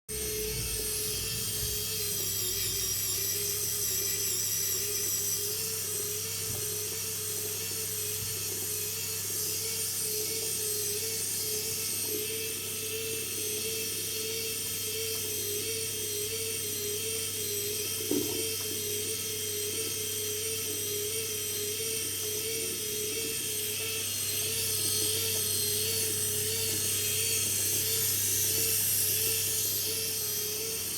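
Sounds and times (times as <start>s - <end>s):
electric gear motors whining: 0.1s - 30.9s.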